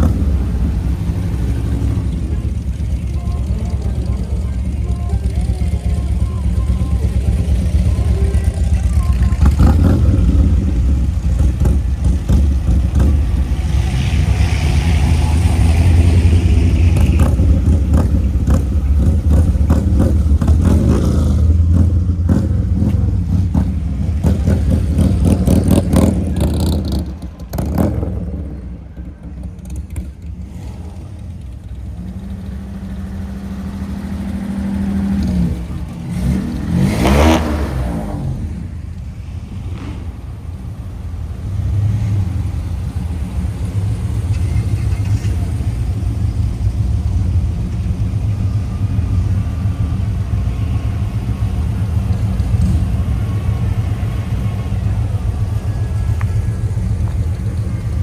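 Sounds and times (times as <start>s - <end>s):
engine revving: 0.0s - 28.7s, 29.9s - 49.9s, 51.1s - 58.0s
car engines driving past: 0.0s - 58.0s
deep exhaust rumble: 0.0s - 58.0s.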